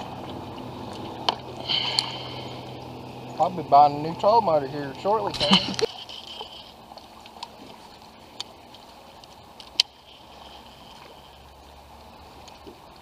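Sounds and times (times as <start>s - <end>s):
low boat background: 0.0s - 13.0s.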